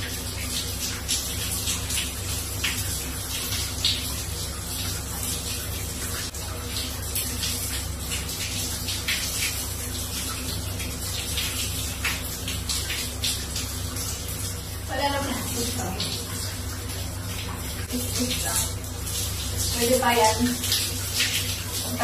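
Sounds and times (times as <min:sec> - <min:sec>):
shower water spraying on tiles: 0:00.0 - 0:22.0
water splashes: 0:00.0 - 0:22.0.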